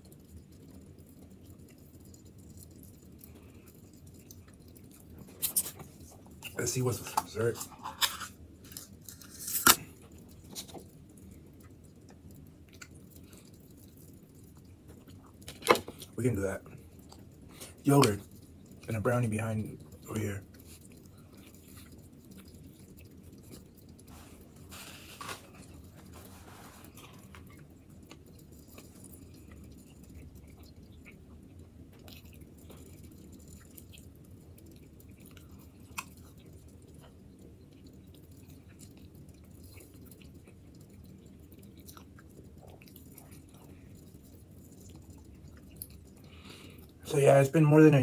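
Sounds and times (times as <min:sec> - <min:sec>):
man chewing with wet mouth sounds: 0:00.0 - 0:48.0.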